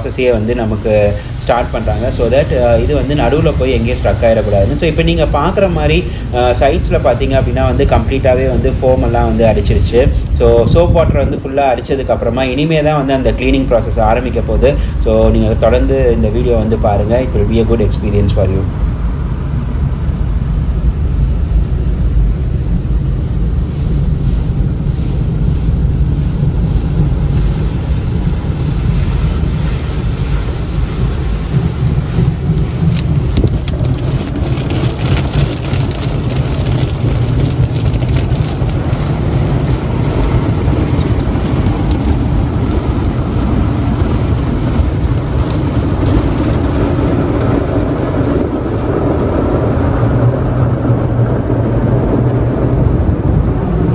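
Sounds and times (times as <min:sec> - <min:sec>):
car wash low rumble: 0:00.0 - 0:53.9
water spraying onto car: 0:00.0 - 0:53.9.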